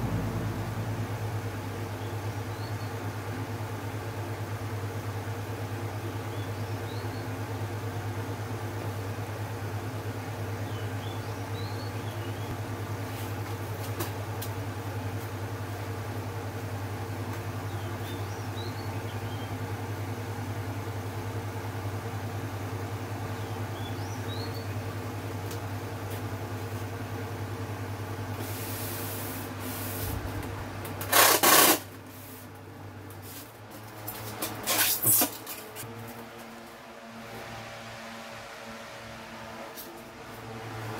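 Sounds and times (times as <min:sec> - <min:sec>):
electric fan motor humming: 0:00.0 - 0:40.9.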